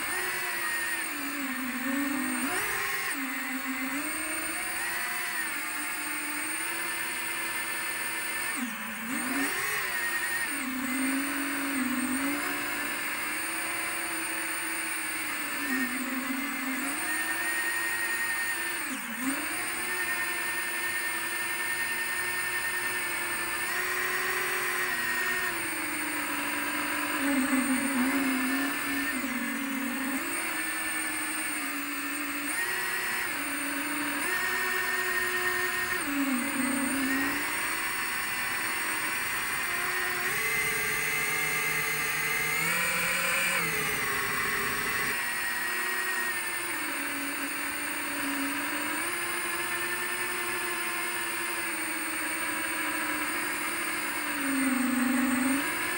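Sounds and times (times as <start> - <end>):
quadcopter motors whining: 0.0 - 55.9.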